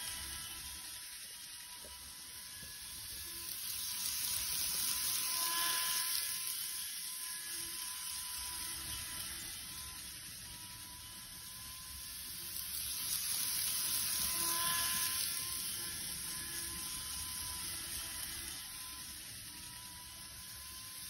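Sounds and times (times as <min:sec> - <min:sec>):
model train whining and hissing: 0:00.0 - 0:21.0.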